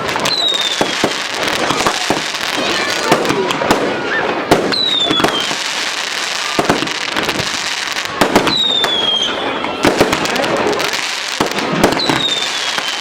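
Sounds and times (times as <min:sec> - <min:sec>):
fireworks crackling and banging: 0:00.0 - 0:13.0
whistling firework: 0:00.0 - 0:13.0.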